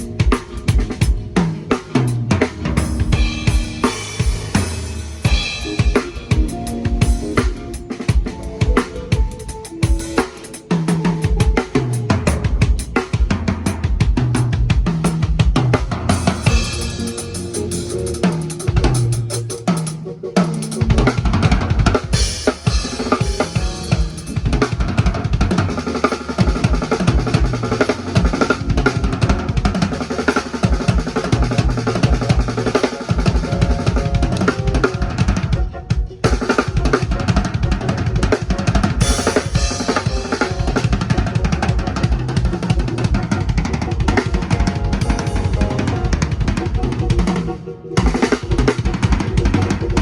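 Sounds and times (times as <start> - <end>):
drum-heavy music over sound system: 0.0 - 50.0.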